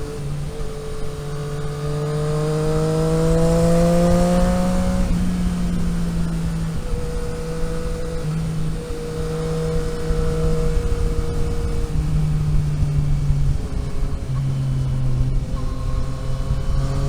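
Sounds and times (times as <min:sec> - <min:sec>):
vehicle engine hum: 0:00.0 - 0:17.0
wind and road noise: 0:00.0 - 0:17.0.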